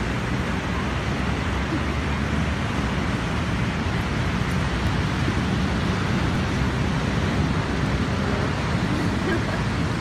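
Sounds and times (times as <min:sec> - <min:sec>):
ocean surf: 0:00.0 - 0:10.0
wind noise on microphone: 0:00.0 - 0:10.0.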